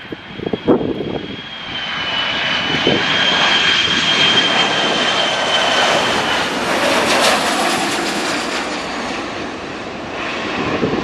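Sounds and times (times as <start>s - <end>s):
airliner engine roar: 0.0s - 11.0s.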